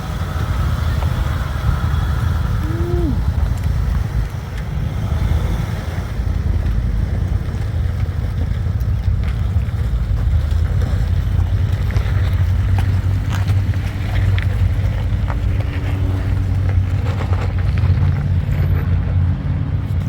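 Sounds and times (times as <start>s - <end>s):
off-road vehicle rumbling: 0.0s - 20.0s.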